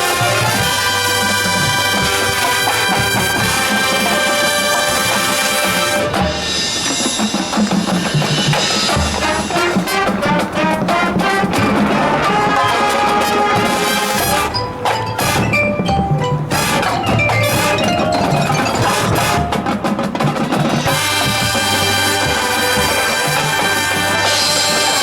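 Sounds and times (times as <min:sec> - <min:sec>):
drums: 0:00.0 - 0:25.0
mallet percussion: 0:00.0 - 0:25.0.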